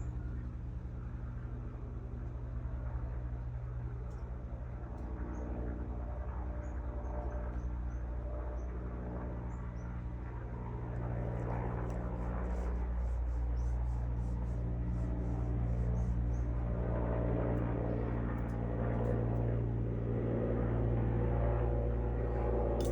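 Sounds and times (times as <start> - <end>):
low engine drone: 0.0 - 22.9.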